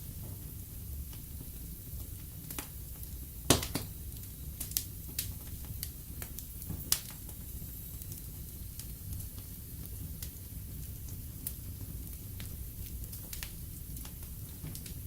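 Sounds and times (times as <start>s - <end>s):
fire popping: 0.0s - 15.0s
flames rumbling: 0.0s - 15.0s.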